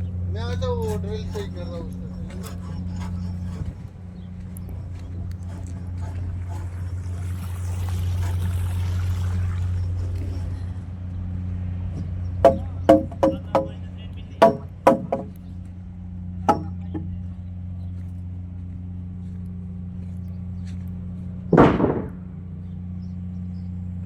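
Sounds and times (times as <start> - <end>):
machinery electric hum: 0.0 - 24.0.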